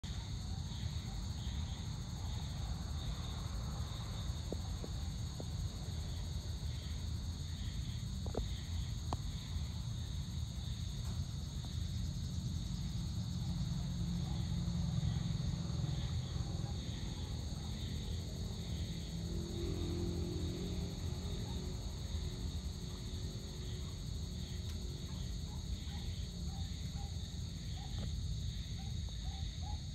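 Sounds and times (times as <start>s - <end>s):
insects trilling: 0.1s - 29.9s.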